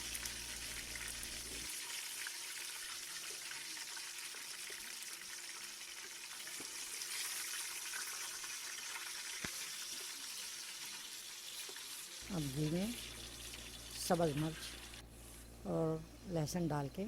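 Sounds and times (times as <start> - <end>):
ghee sizzling in a pan: 0.0 - 15.5.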